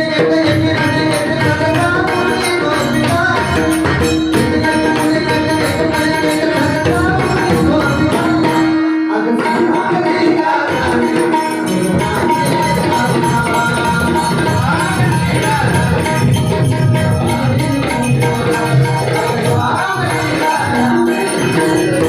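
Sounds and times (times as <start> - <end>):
hand drum rhythm: 0.0 - 22.0
jingling percussion: 0.0 - 22.0.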